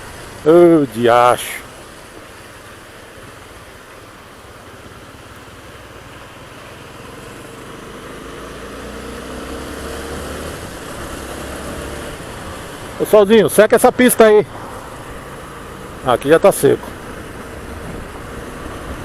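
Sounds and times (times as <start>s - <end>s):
wind and tyres on wet road: 0.0s - 19.0s.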